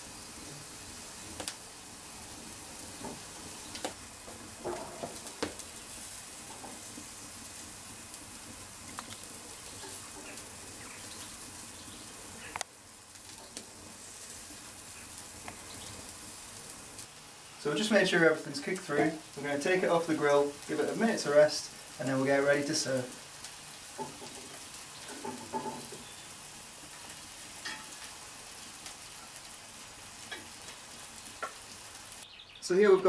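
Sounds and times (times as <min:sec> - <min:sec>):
meat sizzling on a grill: 0:00.0 - 0:33.0.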